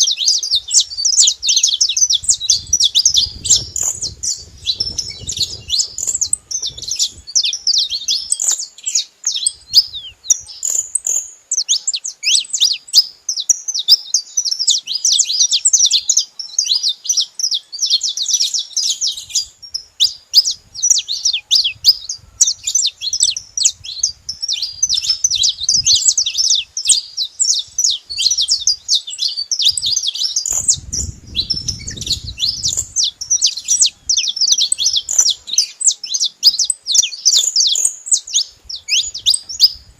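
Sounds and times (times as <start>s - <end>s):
finches chirping and singing: 0.0s - 39.9s.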